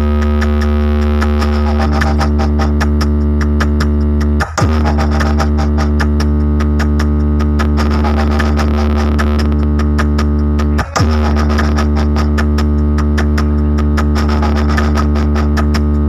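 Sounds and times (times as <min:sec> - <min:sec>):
clicky electronic beats: 0:00.0 - 0:16.0
synthesizer bass drone: 0:00.0 - 0:16.0.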